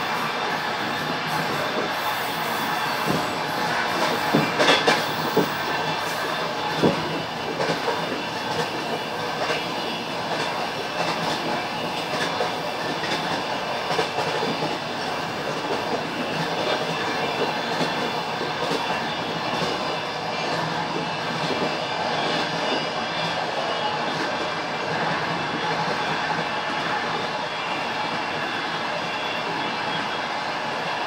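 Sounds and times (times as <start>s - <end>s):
train wheels clattering over rails: 0.0s - 31.0s.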